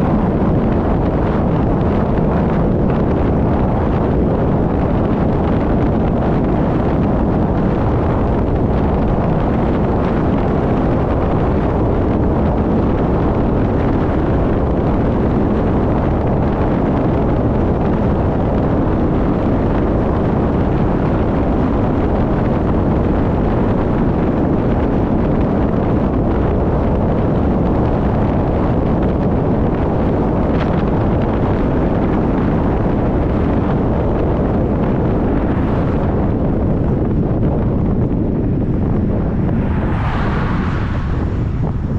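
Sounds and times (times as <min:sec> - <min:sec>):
car road and tyre noise: 0:00.0 - 0:41.9
wind on microphone: 0:00.0 - 0:41.9.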